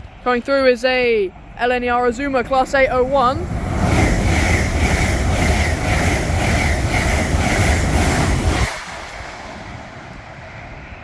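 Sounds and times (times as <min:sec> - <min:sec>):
electric train passing at speed: 0:00.0 - 0:11.0.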